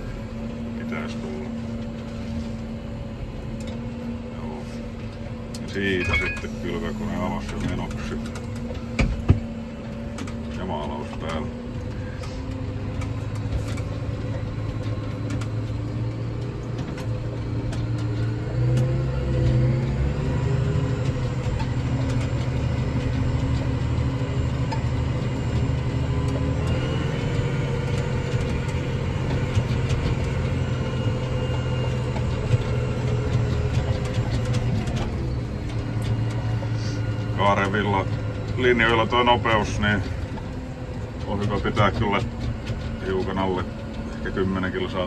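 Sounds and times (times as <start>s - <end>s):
tractor engine running under load: 0.0s - 45.0s.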